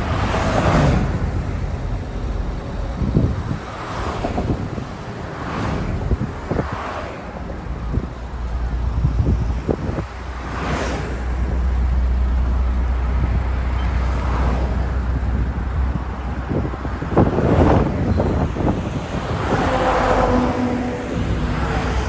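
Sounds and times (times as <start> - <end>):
vehicles whooshing past: 0.0 - 22.0
wind rumble on microphone: 0.0 - 22.0.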